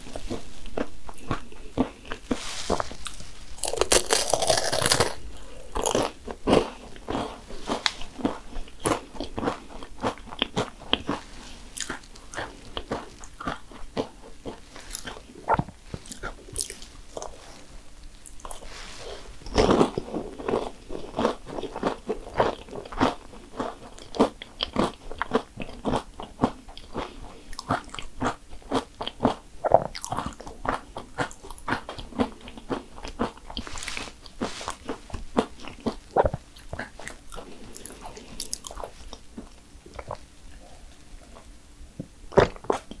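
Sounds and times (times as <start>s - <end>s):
crunching and chewing: 0.0s - 41.6s, 42.3s - 43.0s.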